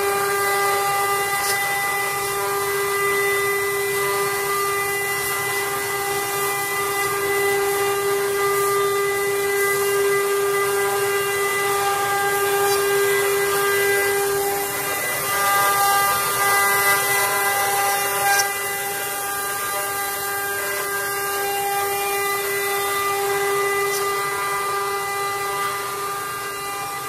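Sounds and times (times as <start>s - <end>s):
router spindles whining: 0.0s - 27.0s
bits hissing cutting wood: 0.2s - 7.2s, 7.8s - 24.8s.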